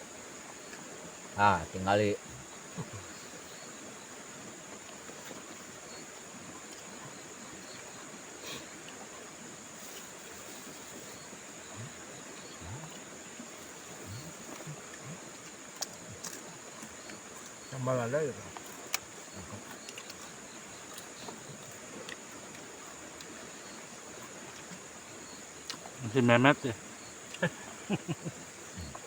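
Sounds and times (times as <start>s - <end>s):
flowing water hiss: 0.0s - 29.0s
insect trill: 0.0s - 29.0s.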